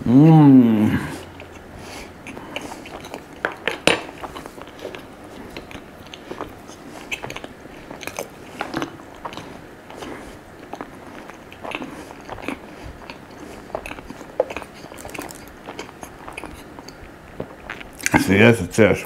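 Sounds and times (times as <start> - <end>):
person chewing and biting food: 1.0 - 18.2.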